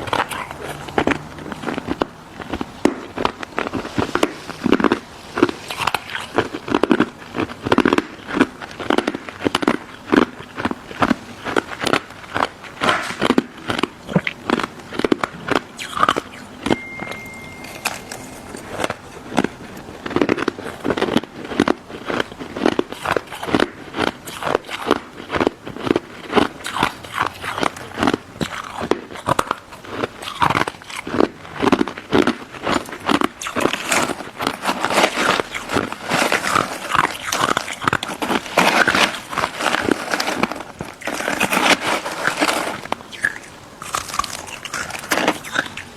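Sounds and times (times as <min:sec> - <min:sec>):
crunchy ice dessert chewing: 0:00.0 - 0:45.9.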